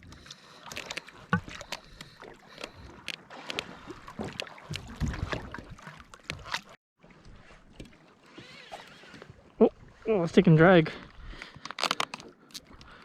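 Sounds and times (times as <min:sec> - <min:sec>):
water lapping against kayak hull: 0:00.0 - 0:13.0.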